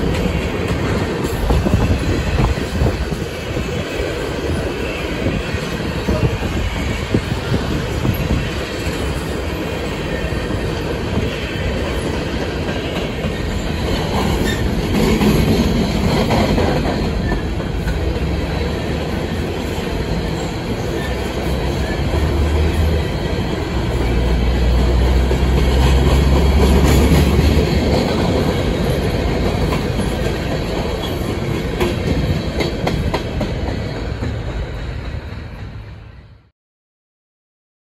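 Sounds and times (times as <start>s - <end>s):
freight train wheels rumbling on rail: 0.0s - 36.5s.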